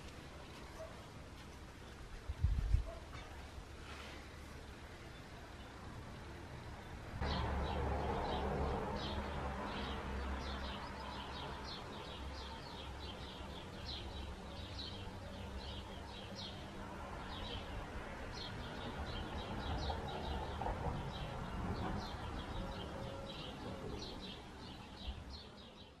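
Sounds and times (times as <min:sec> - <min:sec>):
low background noise: 0:00.0 - 0:26.0.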